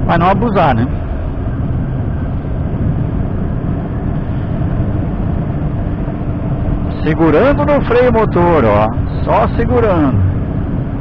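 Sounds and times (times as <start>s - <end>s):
wind noise: 0.0s - 11.0s
faint steady tone: 0.6s - 11.0s.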